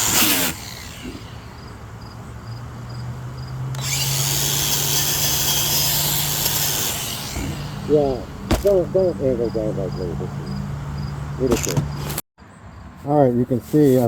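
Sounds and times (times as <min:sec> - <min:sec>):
angle grinder humming: 0:00.0 - 0:11.4.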